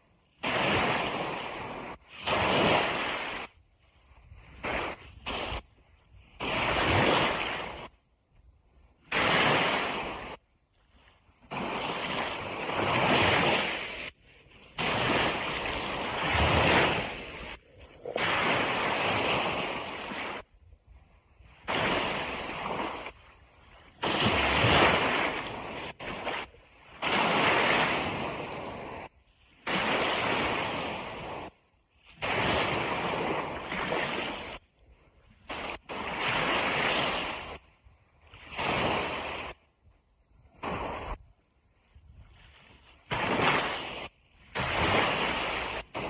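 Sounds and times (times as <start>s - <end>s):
ocean surf washing on beach: 0.0s - 39.7s, 40.3s - 46.0s.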